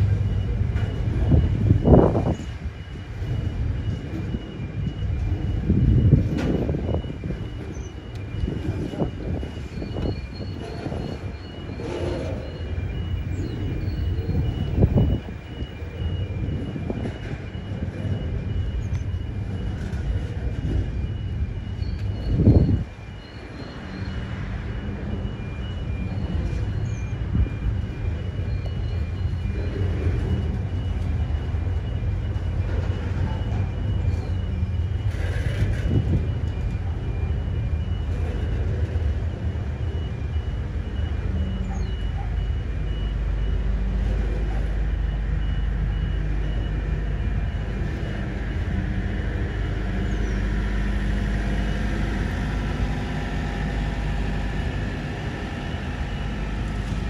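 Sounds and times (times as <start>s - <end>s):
freight wagons rumbling on rails: 0.0s - 57.0s.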